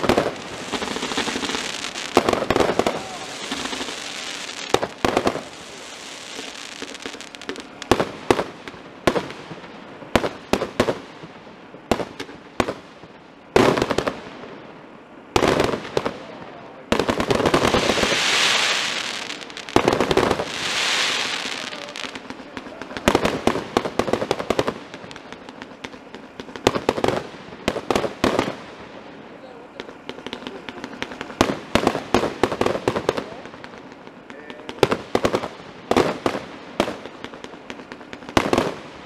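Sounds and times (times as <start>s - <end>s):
hissing crackle of sparks: 0.0s - 11.2s, 15.4s - 39.0s.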